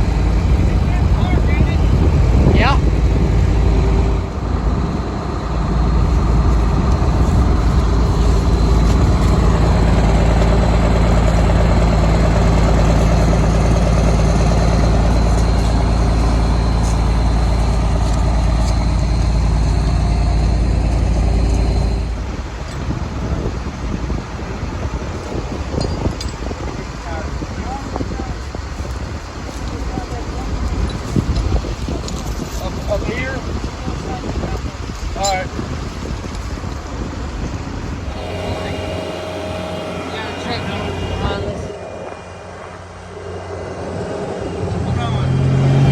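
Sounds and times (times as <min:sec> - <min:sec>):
large engine humming with whine: 0:00.0 - 0:45.9.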